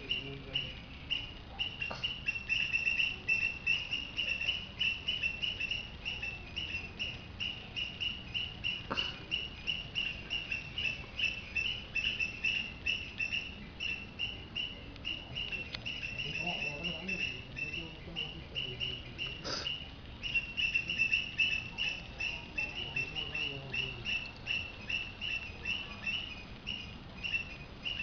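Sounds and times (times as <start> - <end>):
high-pitched chirping: 0.0 - 28.0.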